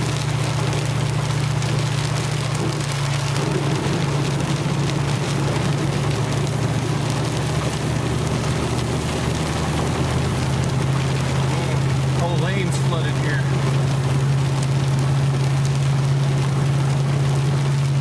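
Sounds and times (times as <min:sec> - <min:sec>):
rain and water hitting vehicle: 0:00.0 - 0:18.0
truck engine and road drone: 0:00.0 - 0:18.0.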